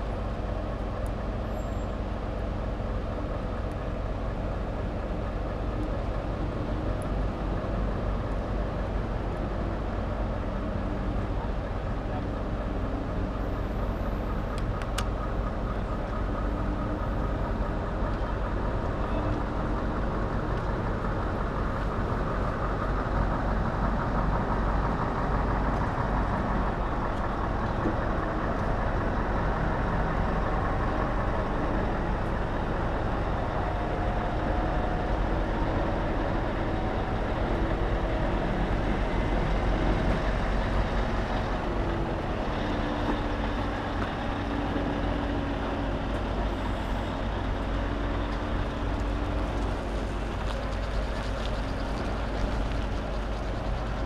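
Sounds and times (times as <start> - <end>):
heavy diesel engine rumbling: 0.0 - 54.0.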